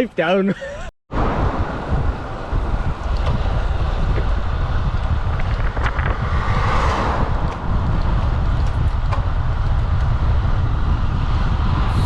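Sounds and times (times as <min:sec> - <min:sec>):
wind buffeting microphone: 0:01.1 - 0:12.0.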